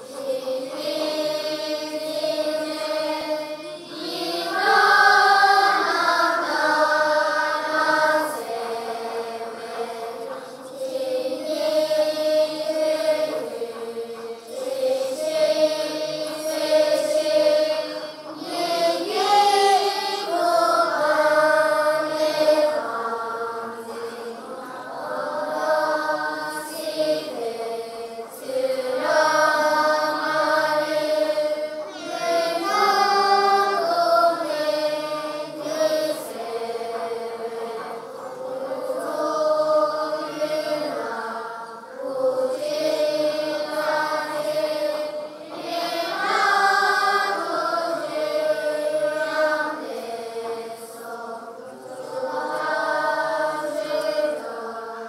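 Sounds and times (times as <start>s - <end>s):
children chanting in unison: 0.0s - 55.0s.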